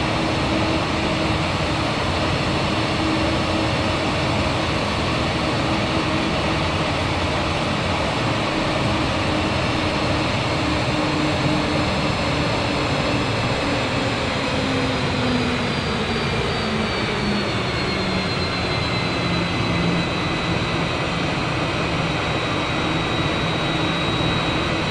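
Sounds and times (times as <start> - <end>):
jet engines running: 0.0 - 24.9.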